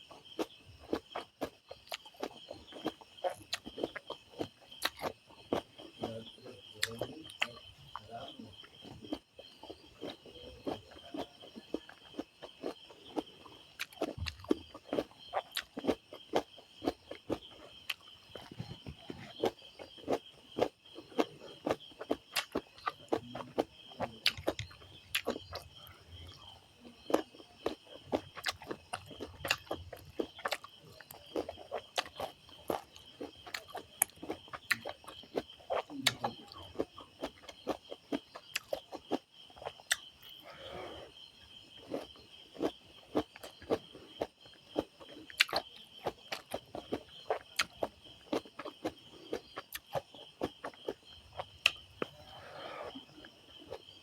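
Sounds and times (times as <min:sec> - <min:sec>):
crickets chirring: 0:00.0 - 0:54.0
person chewing and smacking: 0:00.1 - 0:40.4, 0:41.7 - 0:54.0.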